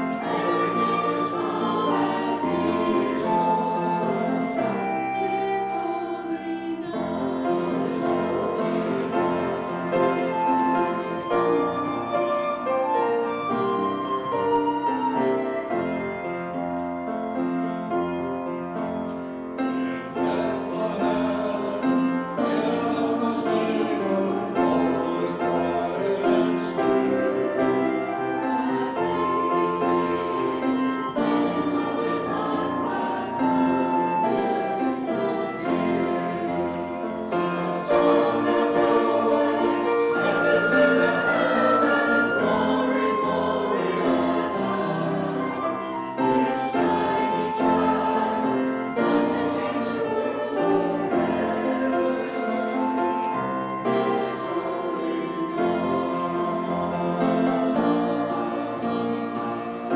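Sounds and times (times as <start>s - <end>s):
choir singing sacred music: 0.0s - 59.9s
musical accompaniment: 0.0s - 59.9s.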